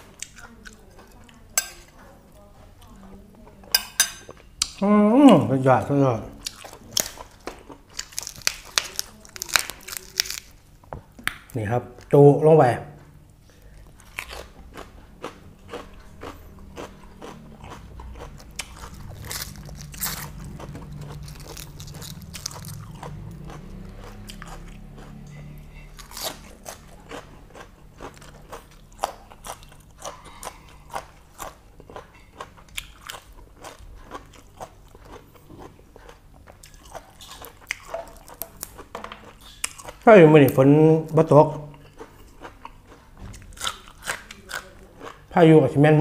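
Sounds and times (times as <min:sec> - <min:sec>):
chewing crunchy food: 0:06.4 - 0:12.2, 0:13.0 - 0:45.4.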